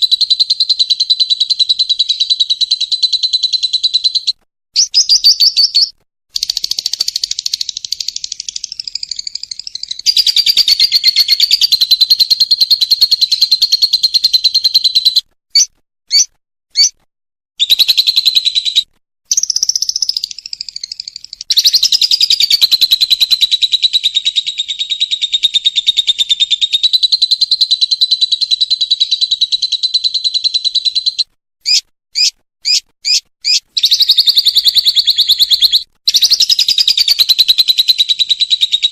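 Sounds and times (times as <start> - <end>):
lovebird chirps: 0.0 - 17.0, 17.6 - 38.9.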